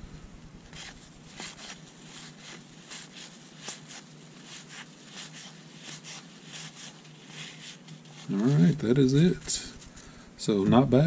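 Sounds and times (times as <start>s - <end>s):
cards sliding with soft swish: 0.7s - 10.2s.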